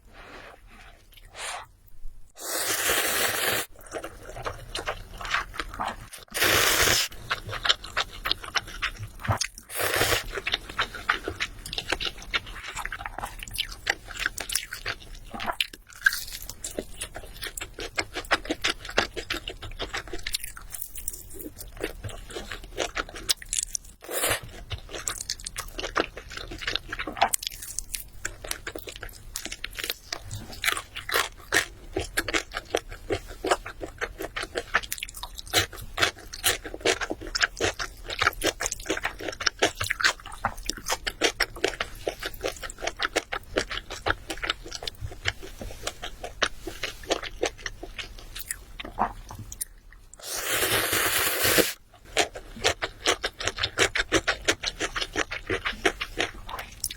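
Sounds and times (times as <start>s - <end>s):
crunching and chewing fried chicken: 3.7s - 6.4s, 7.0s - 56.9s.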